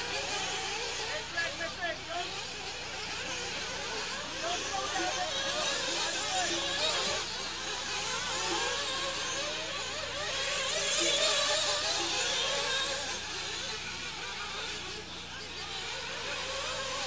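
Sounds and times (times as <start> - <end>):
rc car engines whining: 0.0 - 17.0.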